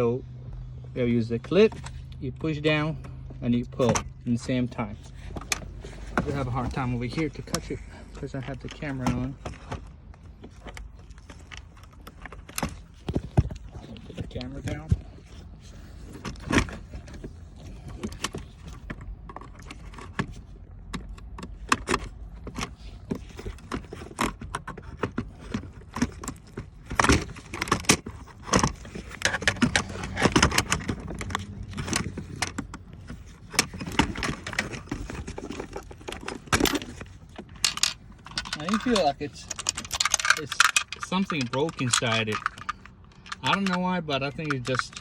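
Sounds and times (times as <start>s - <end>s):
plastic and metal clicks and scraping: 1.4s - 45.0s.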